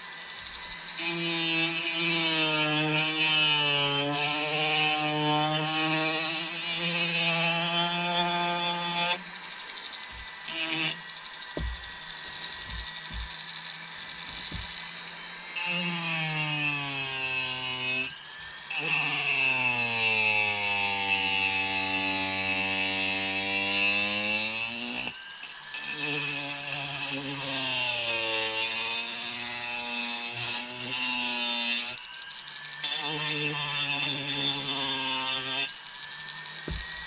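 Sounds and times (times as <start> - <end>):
rotary carving tool whining: 0.0 - 37.0.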